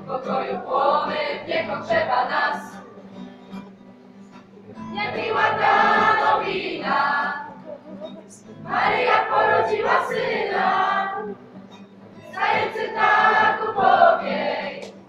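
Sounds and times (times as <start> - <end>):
young voices singing a carol: 0.0 - 2.9, 4.8 - 11.4, 12.2 - 15.0
acoustic guitar: 0.0 - 15.0.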